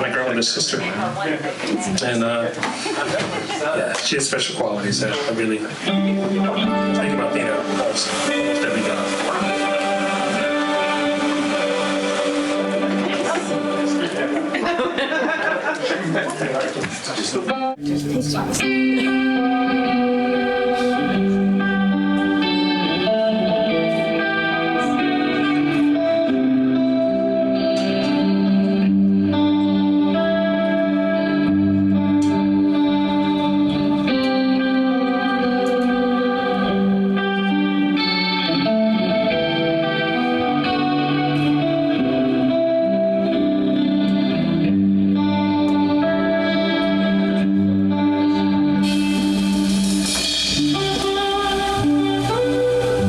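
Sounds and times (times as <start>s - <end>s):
electric guitar slow melody: 5.0s - 15.7s, 17.5s - 53.0s
held bass notes: 5.9s - 14.7s, 17.7s - 53.0s.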